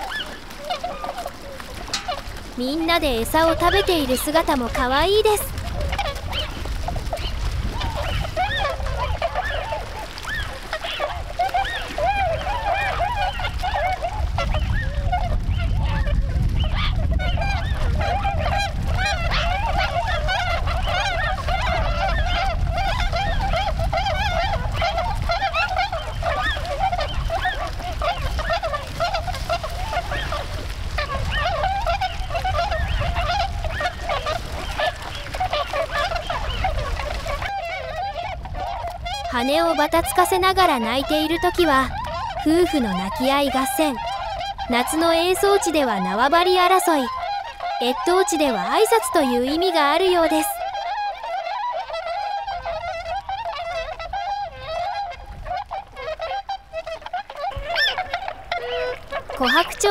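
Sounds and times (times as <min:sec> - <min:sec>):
swans honking: 0:00.0 - 0:59.9.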